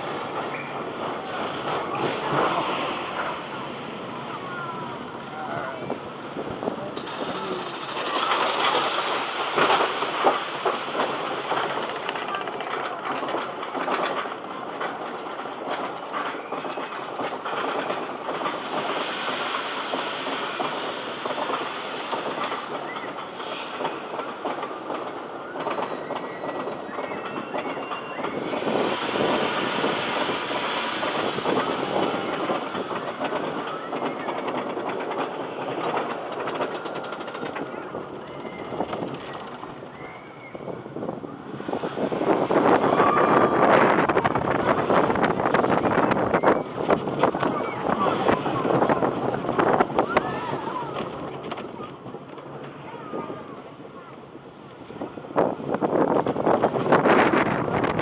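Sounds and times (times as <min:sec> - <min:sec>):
roller coaster wheels clattering: 0:00.0 - 0:58.0.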